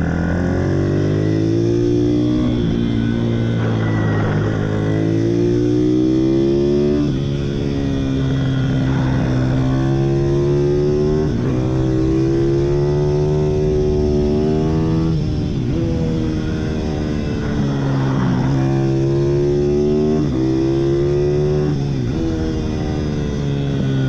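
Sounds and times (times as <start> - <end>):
motorbike engine at high revs: 0.0 - 24.0.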